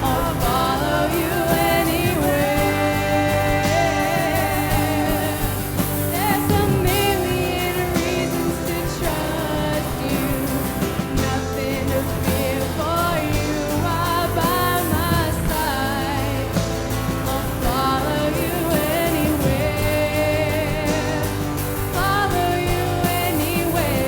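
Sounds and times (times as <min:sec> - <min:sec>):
live band playing: 0:00.0 - 0:24.0
person singing: 0:00.0 - 0:24.0.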